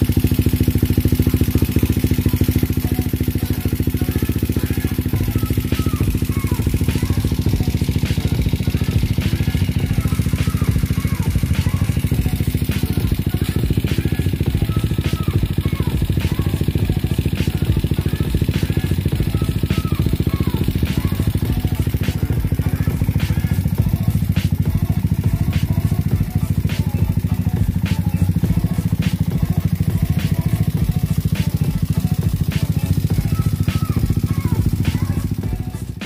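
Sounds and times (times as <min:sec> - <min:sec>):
scooter engine idling: 0:00.0 - 0:36.0.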